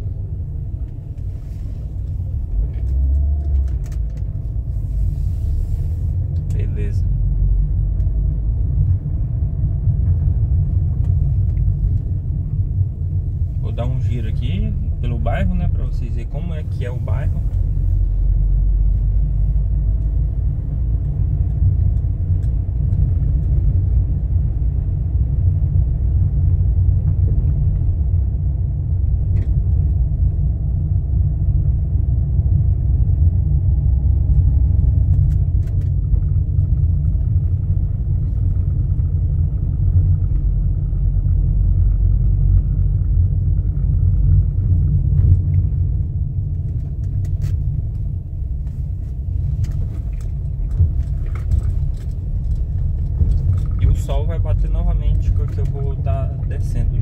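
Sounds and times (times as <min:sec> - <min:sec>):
car driving low rumble: 0:00.0 - 0:57.0.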